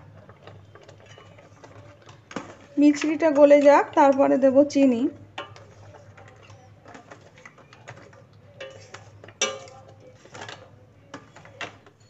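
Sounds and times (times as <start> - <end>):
ladle scraping metal pot: 0.0 - 12.0.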